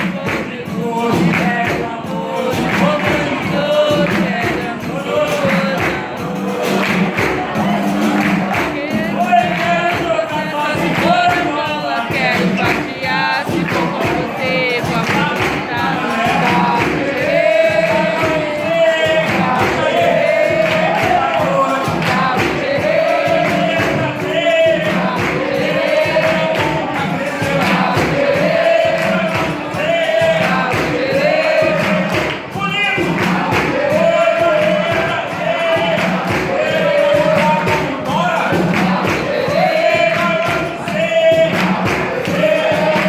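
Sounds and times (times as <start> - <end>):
group of voices singing: 0.0 - 43.0
steady percussion: 0.0 - 43.0.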